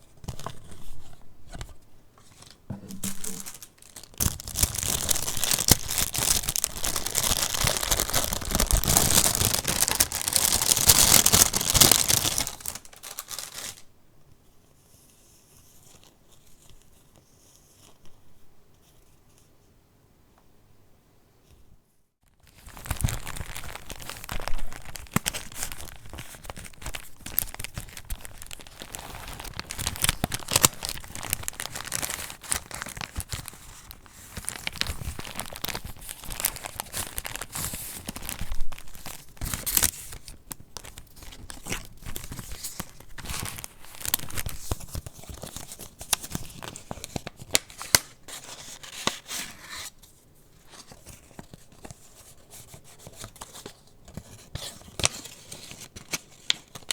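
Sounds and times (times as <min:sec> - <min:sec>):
paper rustling and crinkling: 0:00.0 - 0:13.9, 0:22.4 - 0:56.9.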